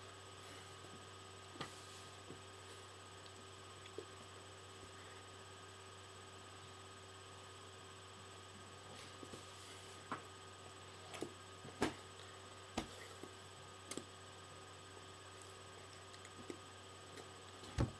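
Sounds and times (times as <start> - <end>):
electrical hum: 0.0 - 17.9.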